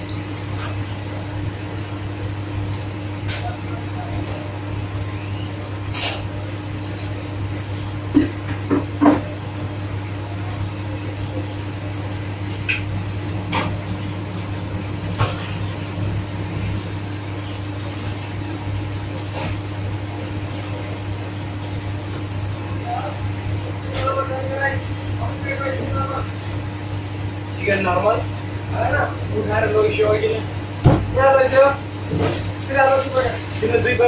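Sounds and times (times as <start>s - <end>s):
low kitchen hum: 0.0s - 34.0s.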